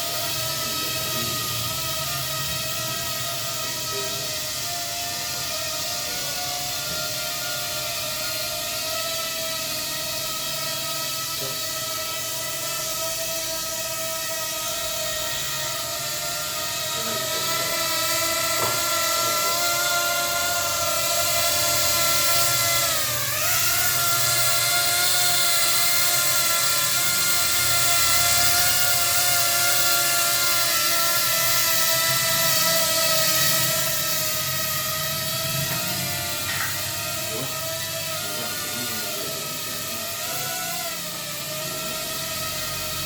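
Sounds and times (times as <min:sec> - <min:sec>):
electric propeller motors whining: 0:00.0 - 0:43.0.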